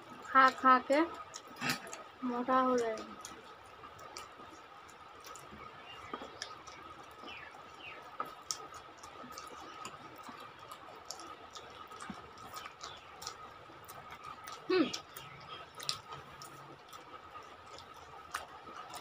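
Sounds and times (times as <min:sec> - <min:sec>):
people chewing with lip smacks: 0:00.0 - 0:19.0.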